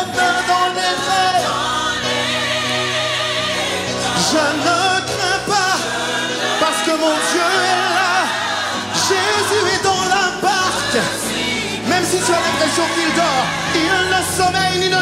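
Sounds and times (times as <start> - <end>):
man singing with vibrato: 0.0 - 1.6, 4.0 - 15.0
backing singers: 0.0 - 15.0
band playing: 0.0 - 15.0.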